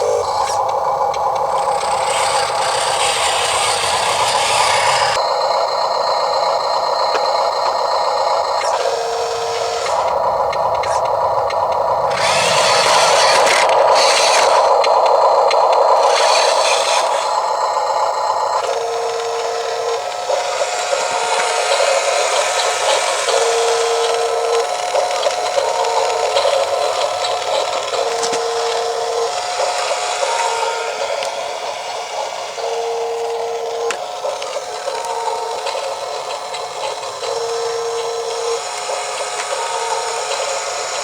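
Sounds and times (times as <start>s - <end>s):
steady electronic tone: 0.0s - 40.9s
small electric motors whining: 0.0s - 41.0s.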